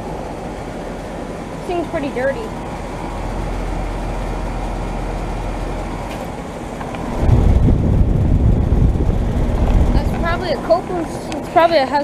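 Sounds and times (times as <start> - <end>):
air conditioner condenser whirring: 0.0 - 12.0.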